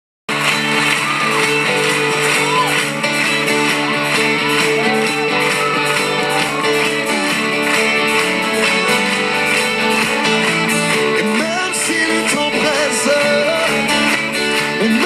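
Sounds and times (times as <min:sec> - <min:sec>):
live pop-rock band playing: 0:00.3 - 0:15.0
strummed guitar: 0:00.3 - 0:15.0.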